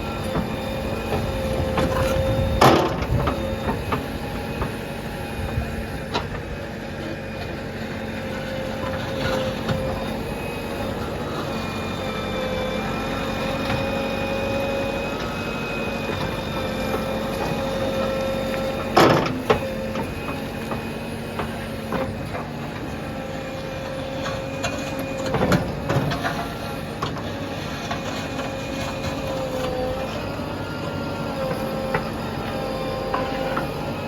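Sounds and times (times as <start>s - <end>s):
backhoe engine and hydraulics whine: 0.0s - 34.0s.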